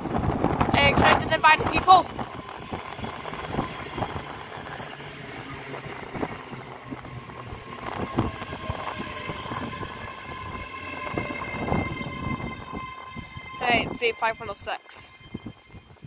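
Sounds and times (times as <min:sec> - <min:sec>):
electric train whine: 0:00.0 - 0:16.0
train wheels rumbling: 0:00.0 - 0:16.0
wind buffeting microphone: 0:00.0 - 0:16.0.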